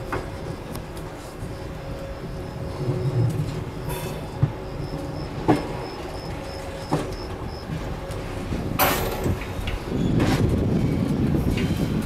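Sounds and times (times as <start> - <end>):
train rumbling: 0.0 - 12.0
wheels clacking on rails: 0.0 - 12.0.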